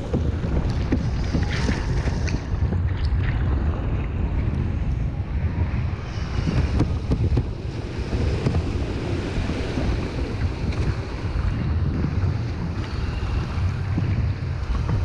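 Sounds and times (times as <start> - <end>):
rushing surf: 0.0 - 15.0
water splashing against hull: 0.0 - 15.0
wind buffeting microphone: 0.0 - 15.0.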